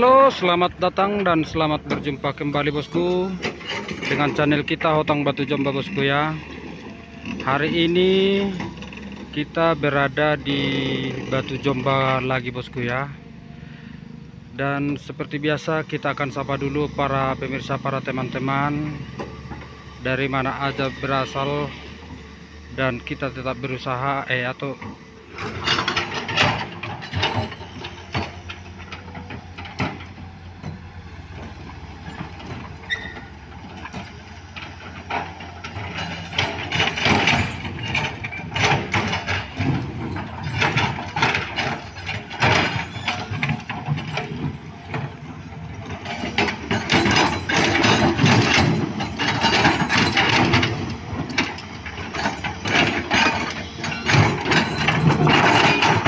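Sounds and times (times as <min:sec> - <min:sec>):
diesel engine running: 0:00.0 - 0:56.0
metallic clanking and rattling: 0:01.2 - 0:13.0, 0:17.1 - 0:56.0.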